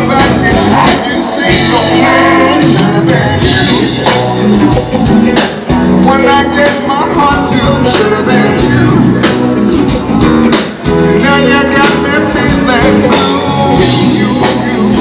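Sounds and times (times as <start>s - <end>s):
drum kit beat: 0.0s - 15.0s
electric guitars: 0.0s - 15.0s
keyboard: 0.0s - 15.0s
person singing: 0.0s - 15.0s.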